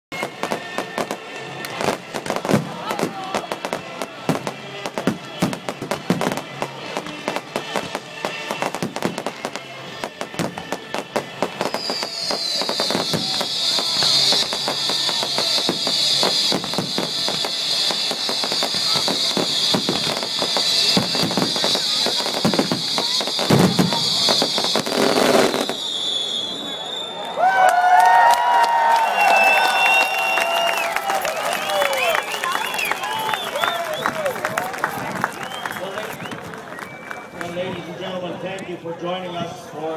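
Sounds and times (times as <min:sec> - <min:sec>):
fireworks bangs and crackles: 0:00.1 - 0:27.0, 0:29.8 - 0:39.7.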